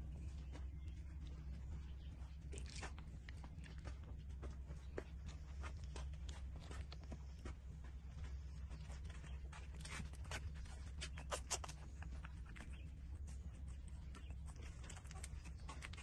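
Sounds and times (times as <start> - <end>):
puppies suckling: 0.0 - 16.0
steady low hum: 0.0 - 16.0.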